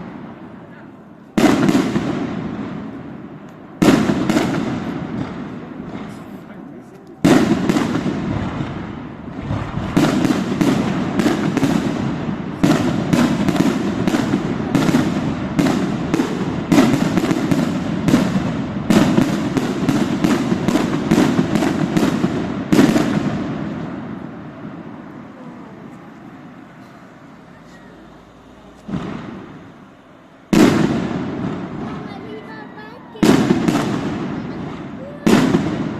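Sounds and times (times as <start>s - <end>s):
continuous rumble: 0.0s - 35.9s.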